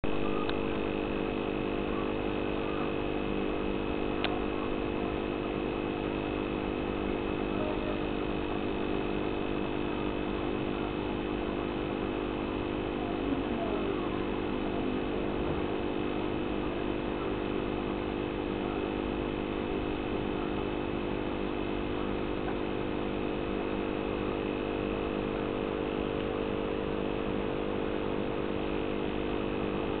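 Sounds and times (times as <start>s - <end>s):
aquarium pump motor humming: 0.0s - 30.0s.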